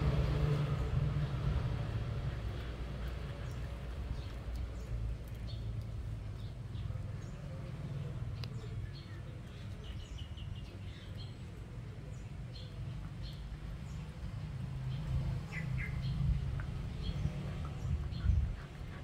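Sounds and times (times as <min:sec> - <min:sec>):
small birds chirping: 0:00.7 - 0:19.0.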